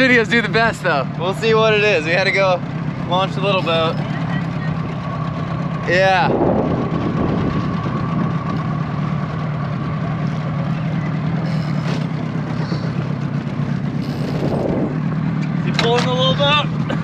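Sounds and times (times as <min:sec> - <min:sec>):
outboard motor humming: 0:00.0 - 0:17.0.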